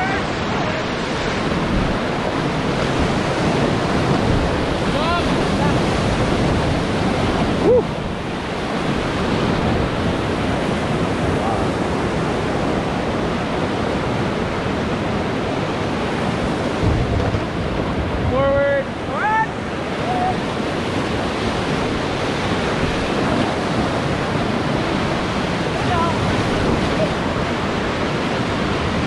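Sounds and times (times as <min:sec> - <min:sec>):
whitewater rushing: 0:00.0 - 0:29.0.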